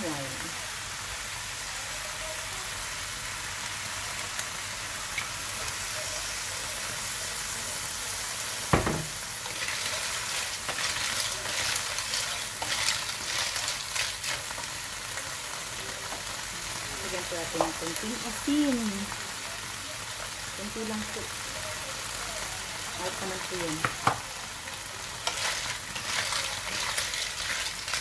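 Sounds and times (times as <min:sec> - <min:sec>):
clams sizzling in a wok: 0:00.0 - 0:28.0.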